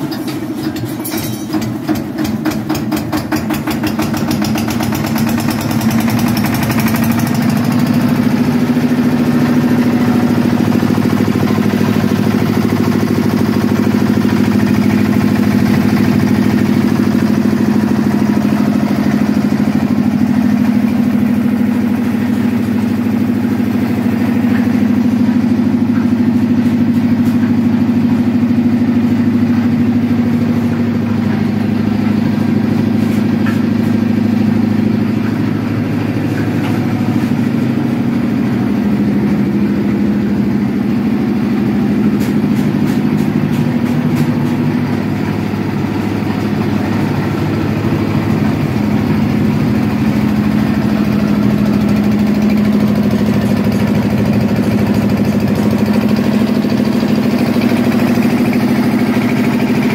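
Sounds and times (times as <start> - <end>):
small diesel engine running: 0.0 - 59.9.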